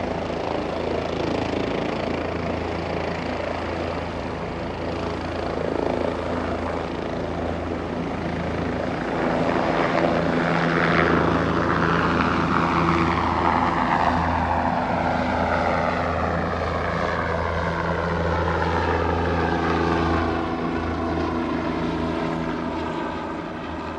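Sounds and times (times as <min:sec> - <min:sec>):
helicopter flying past: 0:00.0 - 0:23.9.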